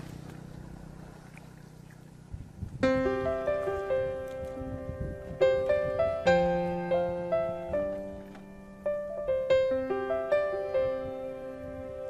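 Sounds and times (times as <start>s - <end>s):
slow piano melody: 0.0s - 12.0s.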